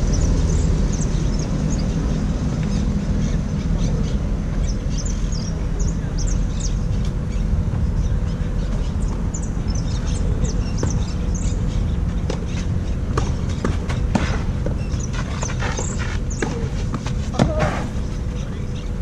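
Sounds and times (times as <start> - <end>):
birds chirping: 0.0 - 19.0
wind buffeting microphone: 0.0 - 19.0.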